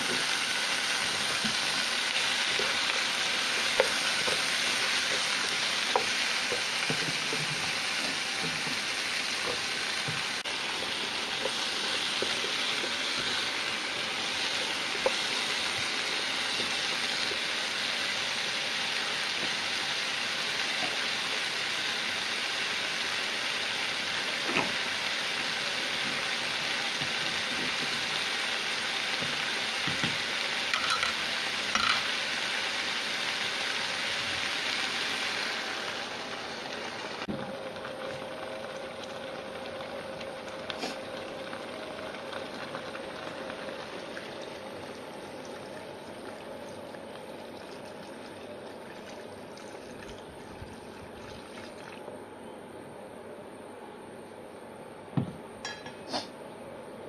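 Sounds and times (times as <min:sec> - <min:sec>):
fruit sizzling in a wok: 0:00.0 - 0:50.4, 0:55.2 - 0:56.4.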